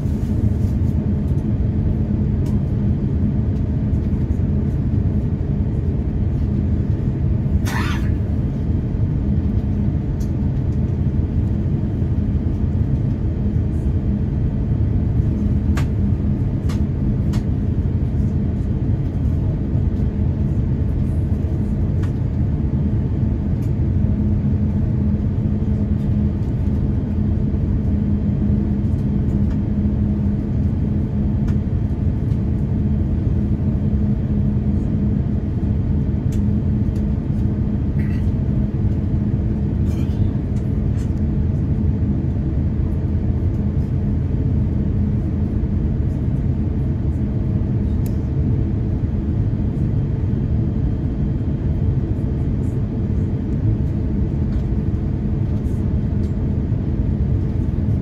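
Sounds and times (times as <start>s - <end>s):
constant hum: 0.0s - 58.0s
jet engine rumble: 0.0s - 58.0s.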